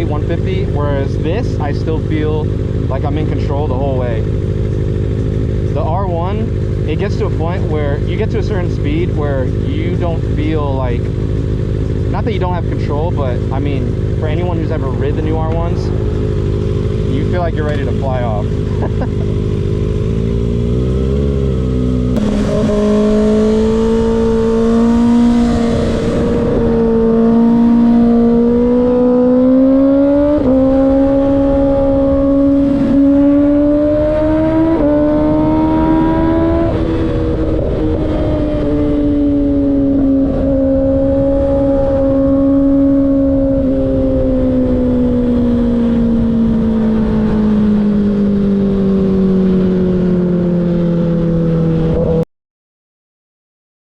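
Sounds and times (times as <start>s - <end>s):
motorcycle engine at speed: 0.0s - 52.2s.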